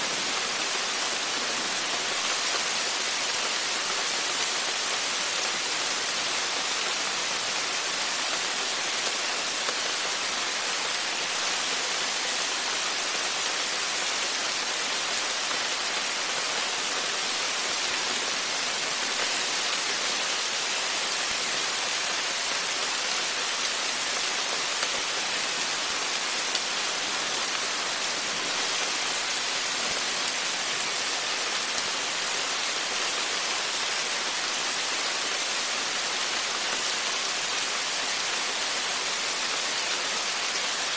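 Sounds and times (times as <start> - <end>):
rain falling on a porch: 0.0 - 40.9.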